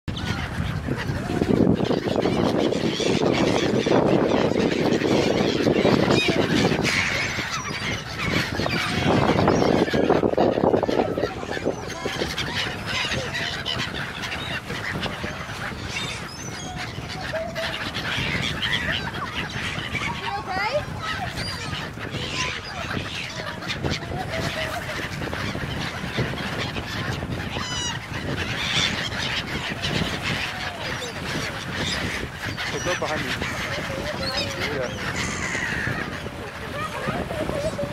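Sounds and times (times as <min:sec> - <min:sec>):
choppy water: 0:00.1 - 0:37.9
gulls calling: 0:00.1 - 0:37.9
wind rushing: 0:00.1 - 0:37.9.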